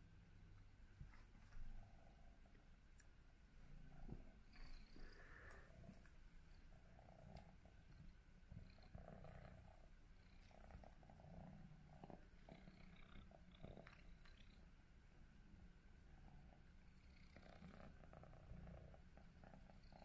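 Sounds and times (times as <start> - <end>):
cat purring: 0.2 - 20.0.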